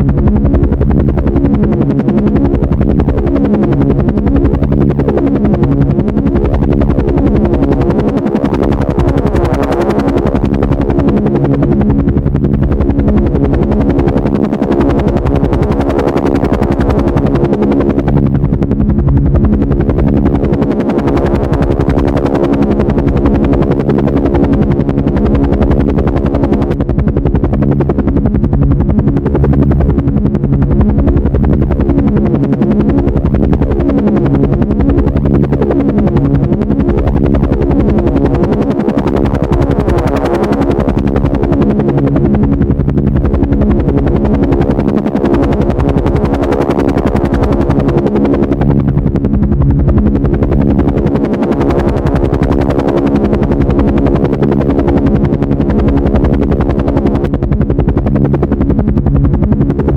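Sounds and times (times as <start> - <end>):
helicopter engine hum: 0.0 - 59.9
helicopter rotor chopping: 0.0 - 59.9.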